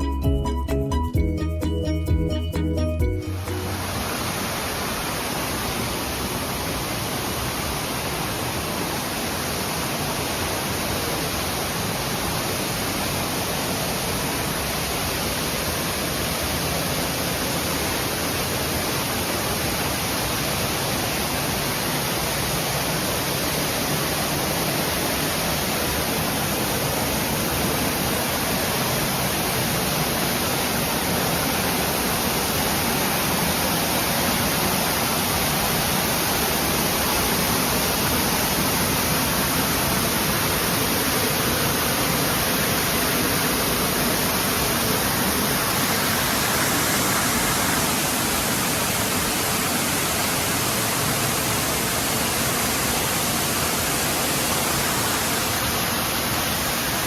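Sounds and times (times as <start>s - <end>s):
waterfall rushing: 3.2s - 57.0s.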